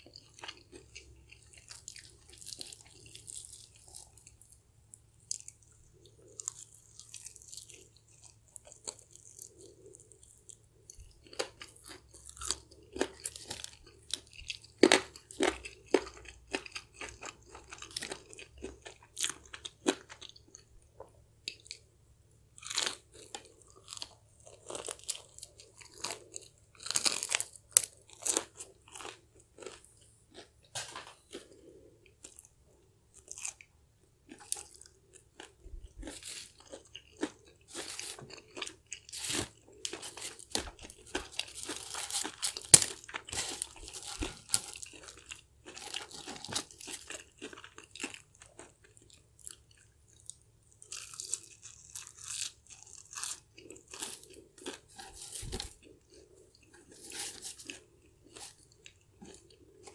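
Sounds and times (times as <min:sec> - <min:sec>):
crunching fried chicken: 0:00.0 - 0:21.8, 0:22.6 - 0:59.9.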